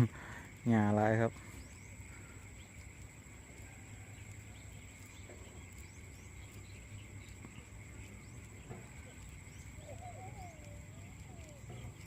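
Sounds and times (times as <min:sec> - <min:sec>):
faint bird chirps: 0:00.0 - 0:12.0
insect chorus: 0:00.0 - 0:12.0.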